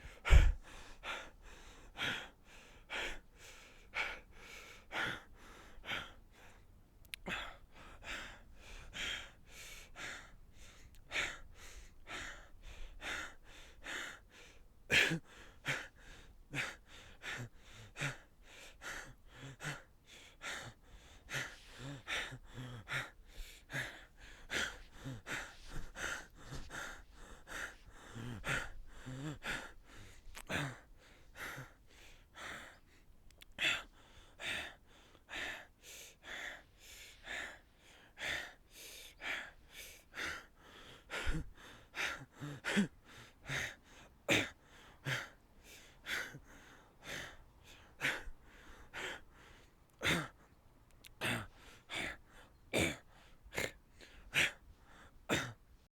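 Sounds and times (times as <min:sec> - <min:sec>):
man gasping for air: 0:00.0 - 0:55.8.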